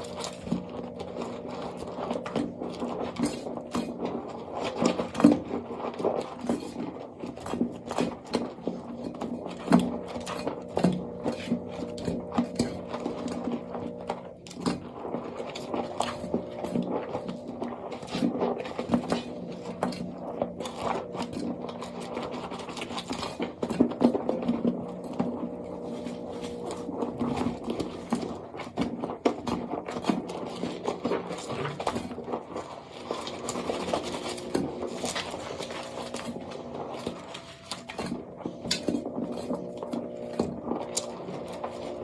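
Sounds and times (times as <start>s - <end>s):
dry soap scraping and crackling: 0.0s - 42.0s.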